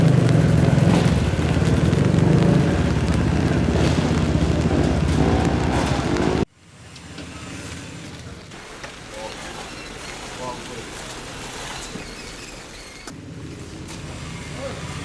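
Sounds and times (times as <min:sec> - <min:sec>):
off-road vehicle engines revving: 0:00.0 - 0:15.0.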